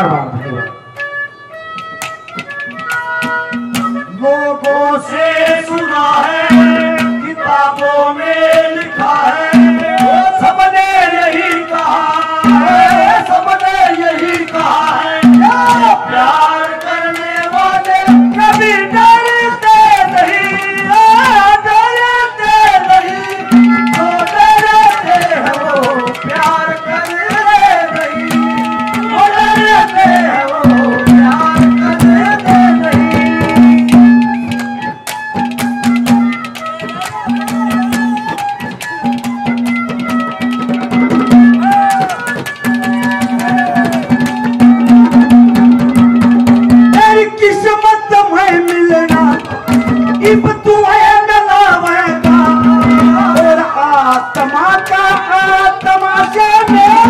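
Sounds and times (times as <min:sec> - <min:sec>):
held steady melody: 0:00.0 - 0:57.0
folk music drum strokes: 0:01.7 - 0:57.0
man singing: 0:03.9 - 0:34.6, 0:41.2 - 0:57.0.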